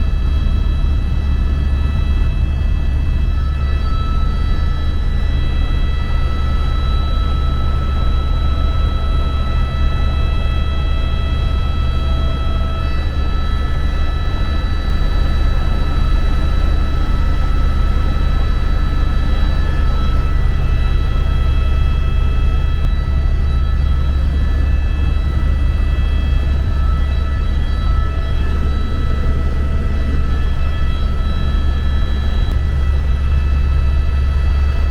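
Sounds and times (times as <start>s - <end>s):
helicopter cabin drone: 0.0s - 34.9s
high turbine whine: 0.0s - 34.9s.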